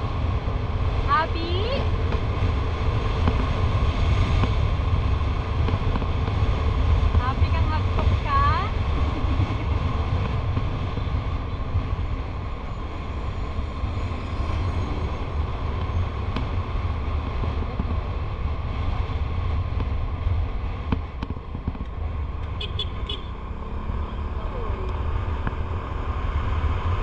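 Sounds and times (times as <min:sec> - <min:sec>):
wind rushing over microphone: 0:00.0 - 0:22.6
motorcycle engine and tyres droning: 0:00.0 - 0:27.0.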